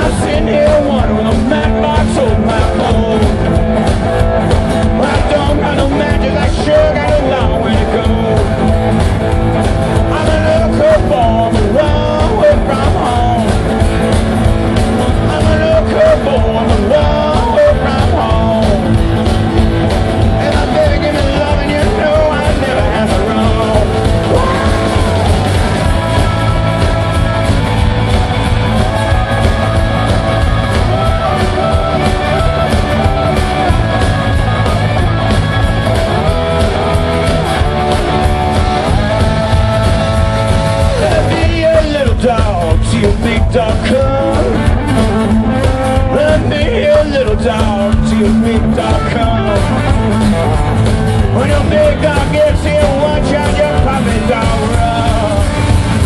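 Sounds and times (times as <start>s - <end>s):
person singing: 0.0s - 14.1s, 14.9s - 56.0s
rock band playing: 0.0s - 56.0s.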